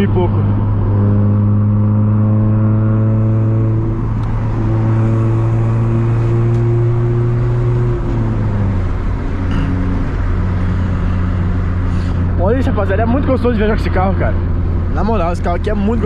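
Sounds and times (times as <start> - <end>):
car engine and exhaust droning: 0.0 - 16.0.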